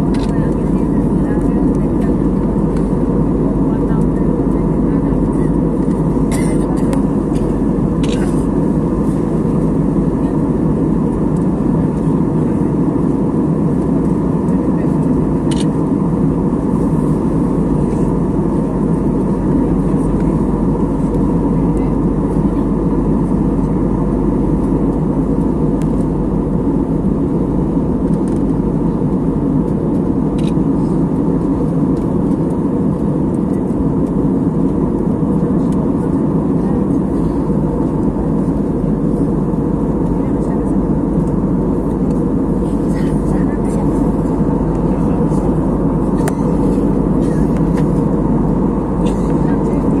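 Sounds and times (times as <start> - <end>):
airliner cabin noise: 0.0 - 50.0.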